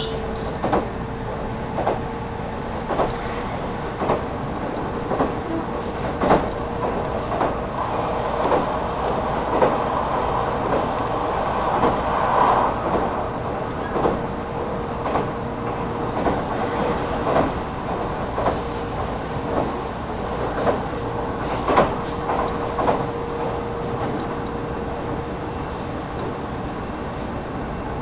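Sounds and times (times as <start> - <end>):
rail joint clacks: 0.0 - 26.4
train wheels rumbling on rail: 0.0 - 28.0.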